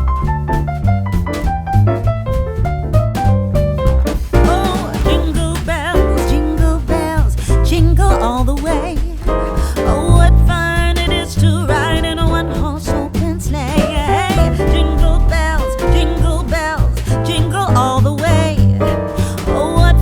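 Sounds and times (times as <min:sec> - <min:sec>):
song with instrumental backing: 0:00.2 - 0:20.0.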